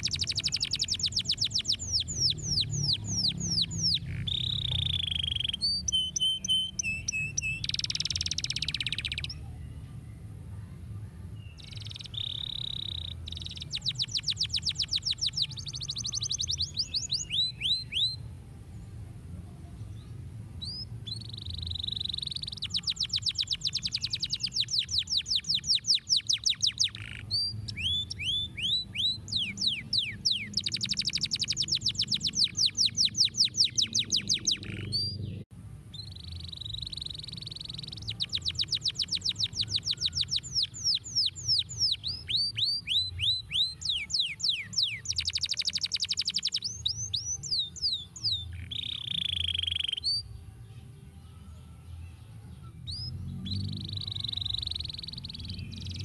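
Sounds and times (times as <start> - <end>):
canary singing trills: 0.0 - 9.8, 11.3 - 18.3, 20.6 - 50.4, 51.3 - 56.0.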